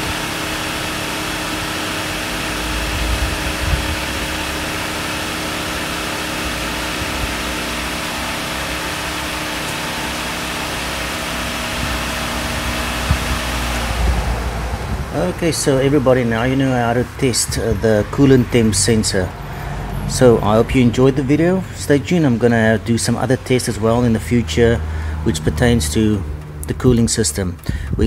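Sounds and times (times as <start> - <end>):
constant tones: 0.0 - 24.8
car engine humming: 0.0 - 28.0
low rumbles: 0.0 - 28.0.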